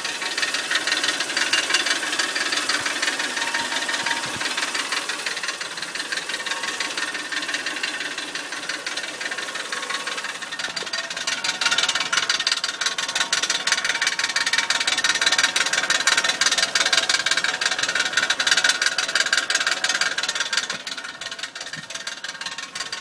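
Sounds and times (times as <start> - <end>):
engine ticking clatter: 0.0 - 23.0.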